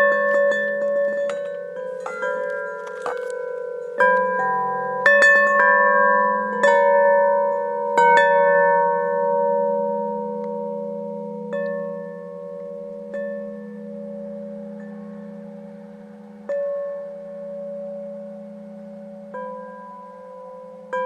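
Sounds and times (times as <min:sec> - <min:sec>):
metal chimes ringing: 0:00.0 - 0:21.0.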